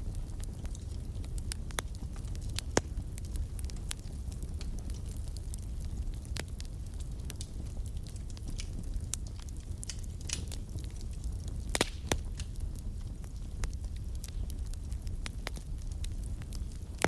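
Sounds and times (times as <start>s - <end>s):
fire crackling: 0.0s - 17.0s
fire flames rumbling: 0.0s - 17.0s
loud fire pops: 0.0s - 17.0s.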